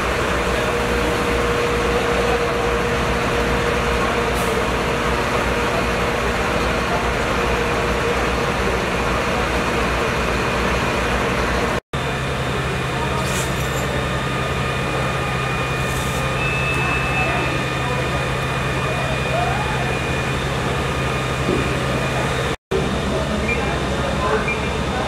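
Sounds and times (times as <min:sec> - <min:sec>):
fire engine idling: 0:00.0 - 0:25.0.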